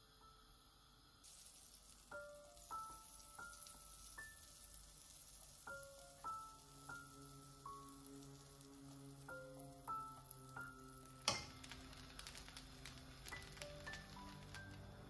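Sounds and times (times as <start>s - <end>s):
butter sizzling in a frying pan: 0.0s - 15.0s.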